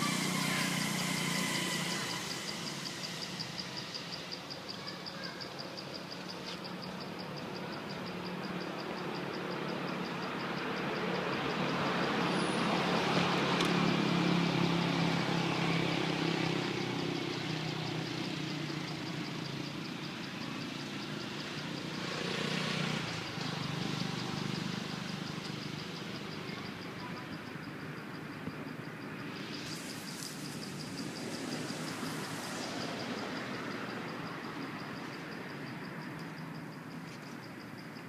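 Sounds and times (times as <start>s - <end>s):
insect chirring in pulses: 0.0s - 38.0s.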